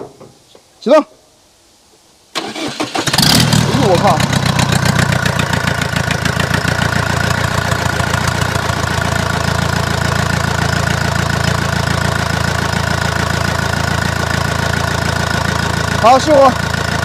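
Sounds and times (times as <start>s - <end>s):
diesel engine idling: 2.4s - 17.0s.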